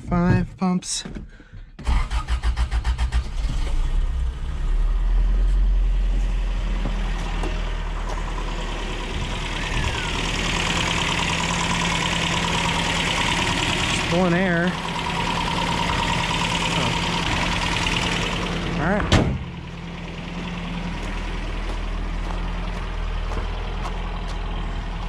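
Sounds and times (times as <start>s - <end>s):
truck engine starting and idling: 1.3s - 25.0s.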